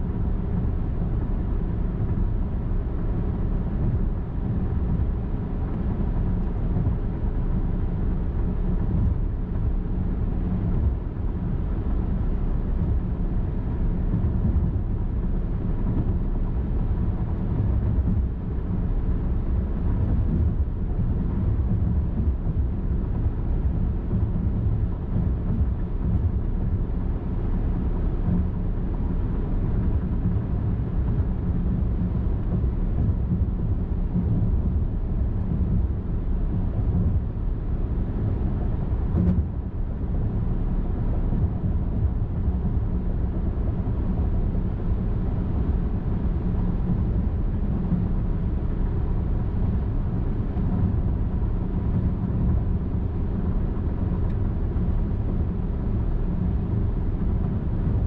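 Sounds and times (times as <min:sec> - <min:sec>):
car driving on highway: 0:00.0 - 0:58.0.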